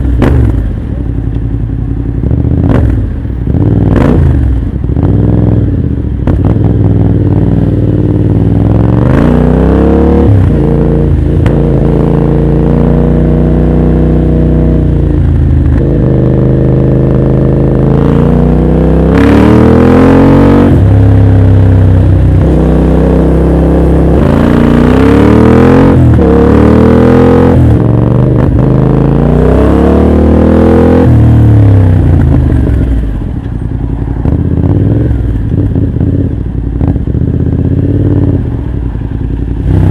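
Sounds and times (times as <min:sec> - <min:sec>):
motorcycle accelerating: 0:00.0 - 0:39.9.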